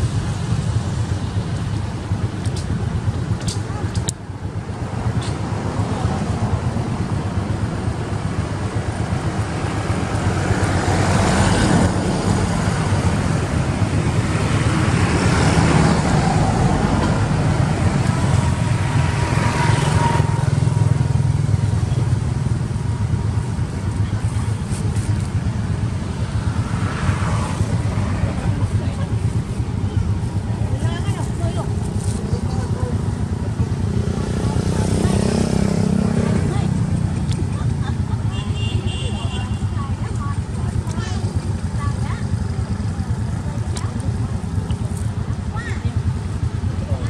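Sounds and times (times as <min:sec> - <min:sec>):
passing road traffic: 0:00.0 - 0:47.0.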